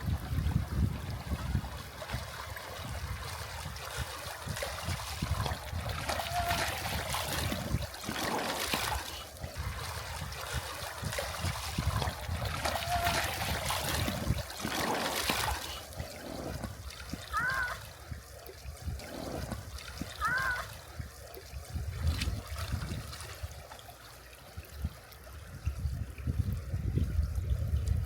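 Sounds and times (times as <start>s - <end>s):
river water flowing: 0.0s - 26.2s.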